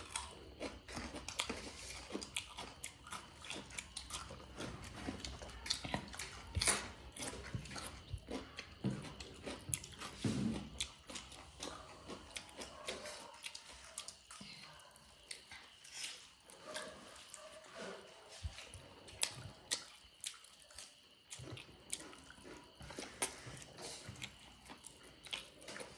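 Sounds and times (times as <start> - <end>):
person chewing food: 0.0 - 25.9.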